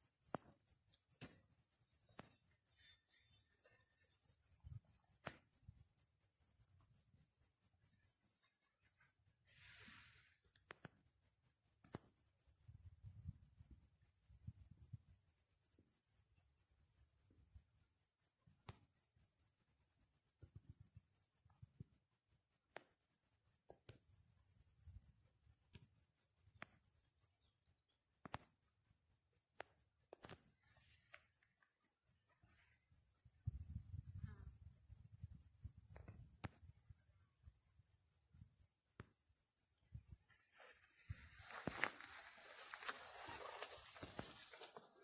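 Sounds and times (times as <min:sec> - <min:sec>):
insect trill: 0:00.0 - 0:45.0.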